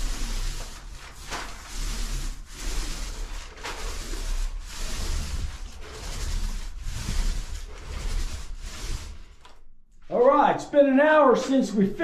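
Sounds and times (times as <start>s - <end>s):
paint roller swishing on ceiling: 0.0s - 10.4s.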